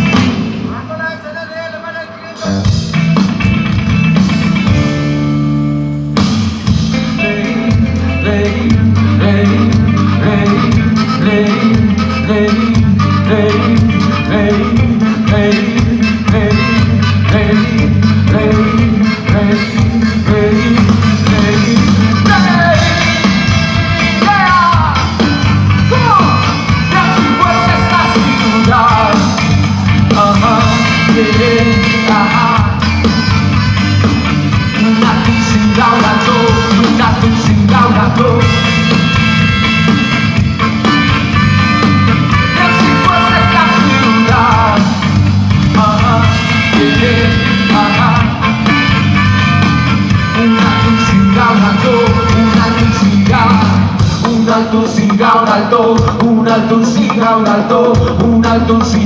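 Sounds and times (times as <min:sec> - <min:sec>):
bass guitar: 0:00.0 - 0:01.0, 0:02.3 - 0:59.0
drum kit: 0:00.0 - 0:01.3, 0:02.4 - 0:59.0
ska rock band playing: 0:00.0 - 0:59.0
wavering lead melody: 0:02.6 - 0:53.6.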